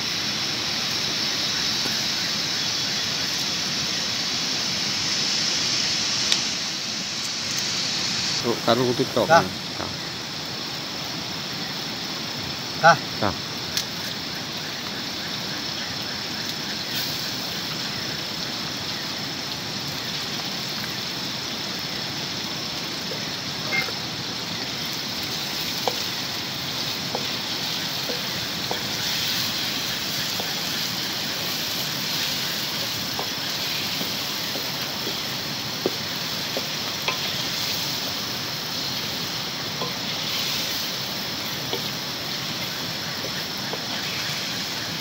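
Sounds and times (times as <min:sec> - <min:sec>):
fish sizzling in oil: 0:00.0 - 0:45.0.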